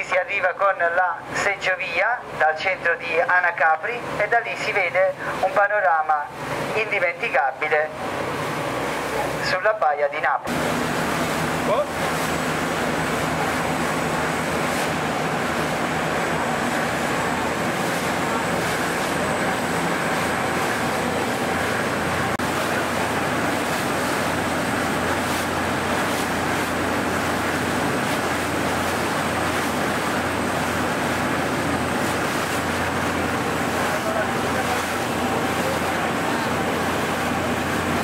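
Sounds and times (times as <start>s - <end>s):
boat engine drone: 0.0s - 38.0s
rushing water: 0.0s - 38.0s.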